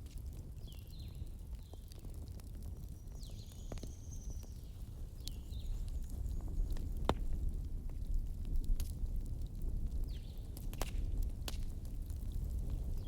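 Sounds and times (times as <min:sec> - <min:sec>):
log fire crackling and popping: 0:00.0 - 0:13.0.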